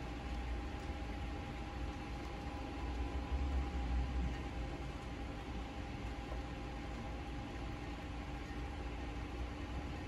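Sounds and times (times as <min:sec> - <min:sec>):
low rumble of city traffic: 0:00.0 - 0:10.0
rain on a window: 0:00.0 - 0:10.0.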